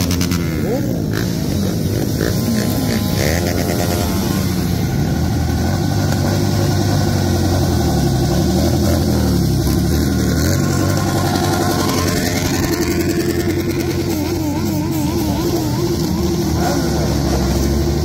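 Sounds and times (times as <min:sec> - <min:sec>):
motorcycles riding past: 0:00.0 - 0:18.0.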